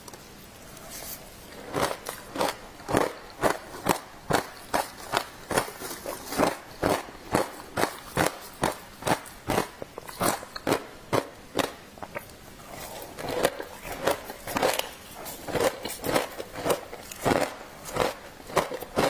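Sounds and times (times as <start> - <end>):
ice crunching while chewed: 1.4 - 19.0.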